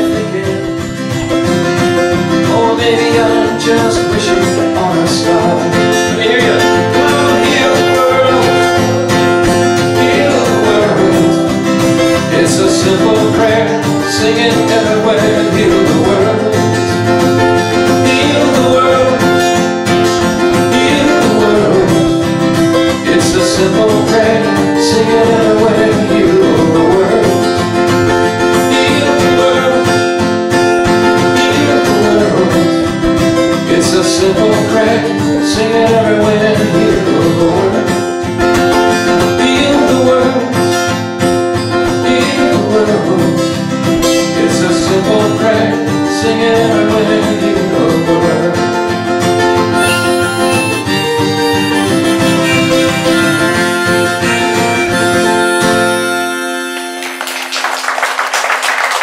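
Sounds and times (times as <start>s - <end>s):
acoustic guitar folk tune: 0.0s - 59.0s.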